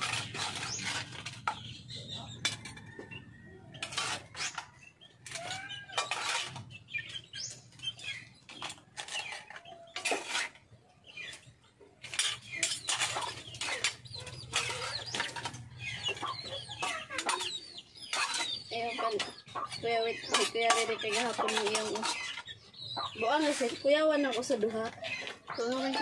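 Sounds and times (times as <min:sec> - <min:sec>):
chirping bird calls: 0:00.0 - 0:26.0.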